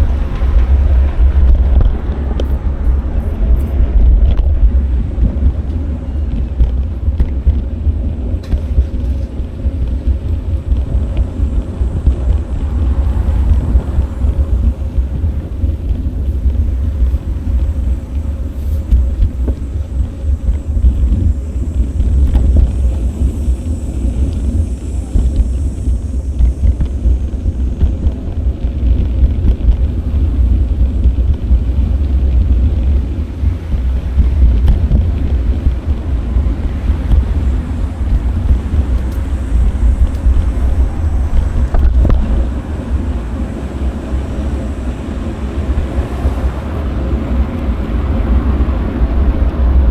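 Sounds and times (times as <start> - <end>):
road noise: 0.0 - 49.9
wind buffeting microphone: 0.0 - 49.9.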